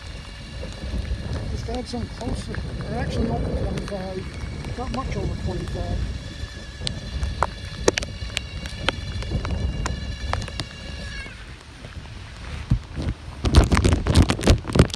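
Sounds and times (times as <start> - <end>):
steady high whine: 0.0 - 13.4
wind gusting on microphone: 0.0 - 14.9.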